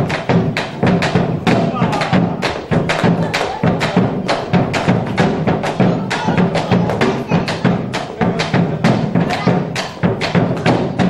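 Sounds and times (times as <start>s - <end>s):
sharp percussive strikes: 0.0s - 11.0s.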